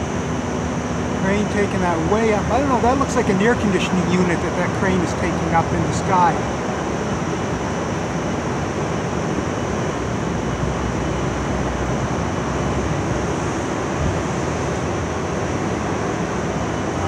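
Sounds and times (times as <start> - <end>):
city street noise: 0.0 - 17.0.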